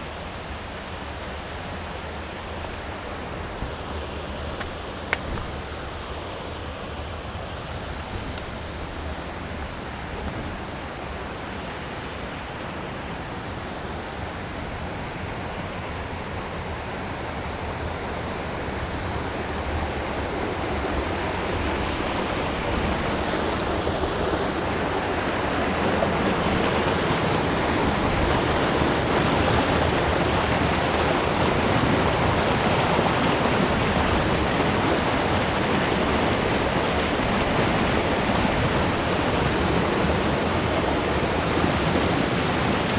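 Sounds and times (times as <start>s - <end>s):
water rushing over a weir: 0.0s - 42.9s.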